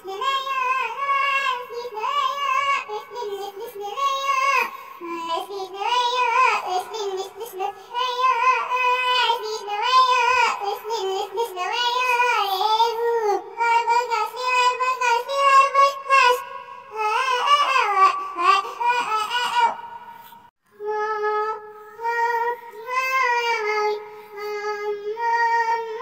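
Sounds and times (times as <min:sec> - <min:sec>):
child singing with vibrato: 0:00.0 - 0:26.0.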